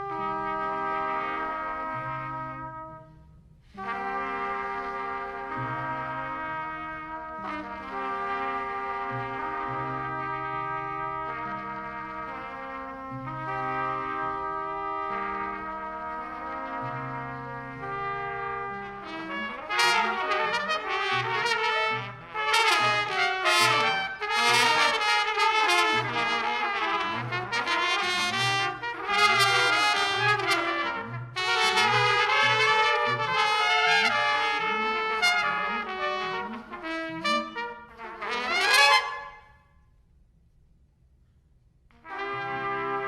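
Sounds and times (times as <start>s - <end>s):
musicians playing a busy tune: 0.0s - 2.8s, 3.8s - 39.3s, 42.0s - 43.0s.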